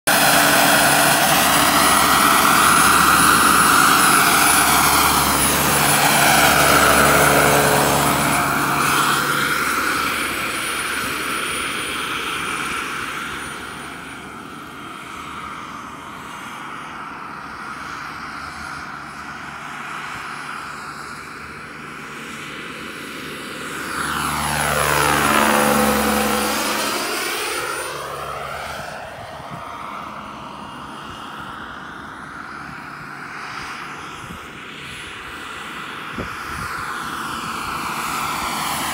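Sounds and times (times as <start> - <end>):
model helicopter flying: 0.1 - 38.9.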